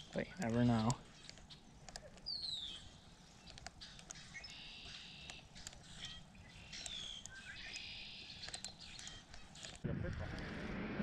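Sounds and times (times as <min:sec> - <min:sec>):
songbird whistle and trills: 0:00.0 - 0:09.7.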